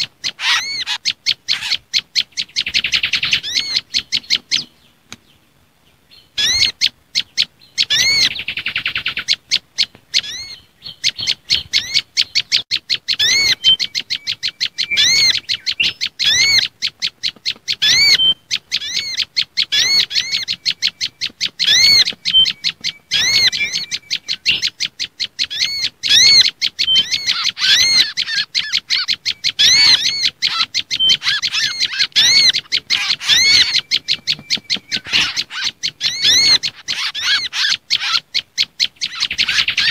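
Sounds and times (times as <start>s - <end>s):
fast high bird chipping: 0.0s - 5.4s, 6.1s - 39.9s.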